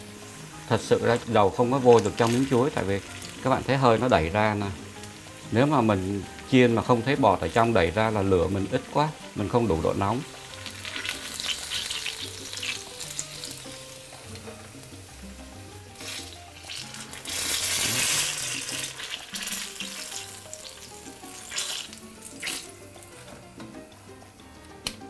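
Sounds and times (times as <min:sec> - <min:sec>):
fritters deep-frying in hot oil: 0:00.0 - 0:23.4
oil bubbling: 0:00.0 - 0:24.2.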